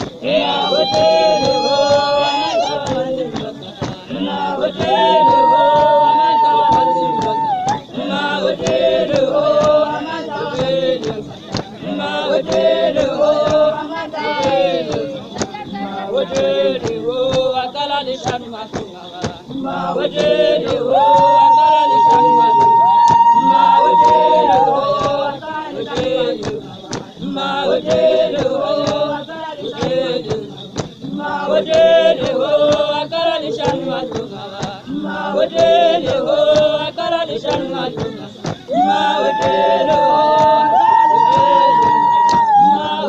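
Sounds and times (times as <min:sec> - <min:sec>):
sharp percussive beats: 0:00.0 - 0:43.0
women singing a chant: 0:00.0 - 0:43.0.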